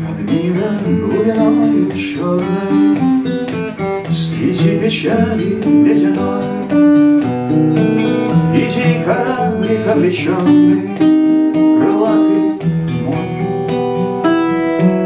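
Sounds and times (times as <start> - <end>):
man singing: 0.0 - 14.9
acoustic guitar: 0.0 - 15.0.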